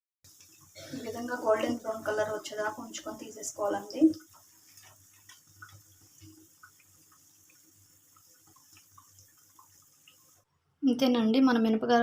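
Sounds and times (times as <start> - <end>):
food deep-frying in hot oil: 0.2 - 10.6
oil popping: 0.3 - 10.5.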